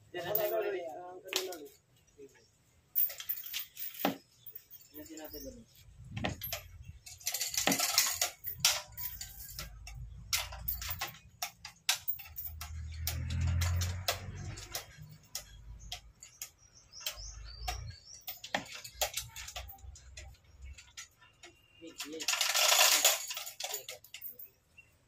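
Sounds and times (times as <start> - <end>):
chain rattling: 0.1 - 1.8, 2.9 - 24.8.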